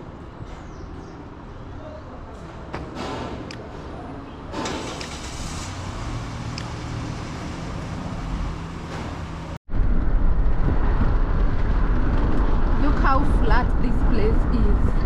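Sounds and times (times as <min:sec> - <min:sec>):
vehicle road noise rumble: 0:00.0 - 0:15.0.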